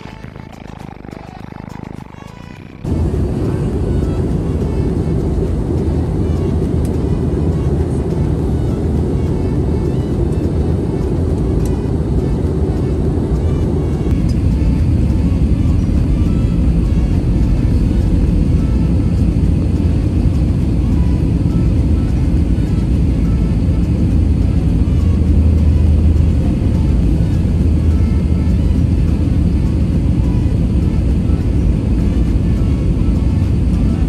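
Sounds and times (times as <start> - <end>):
jet airliner cabin rumble: 0.0 - 34.0.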